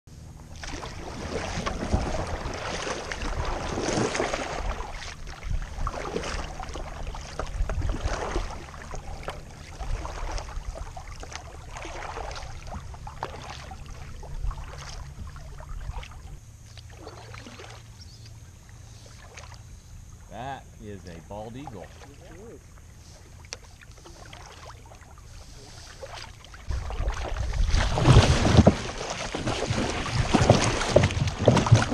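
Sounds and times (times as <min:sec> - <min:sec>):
low steady rumble: 0:00.1 - 0:31.9
water running along hull: 0:00.2 - 0:31.9
paddle strokes splashing: 0:00.3 - 0:19.8, 0:20.8 - 0:31.9.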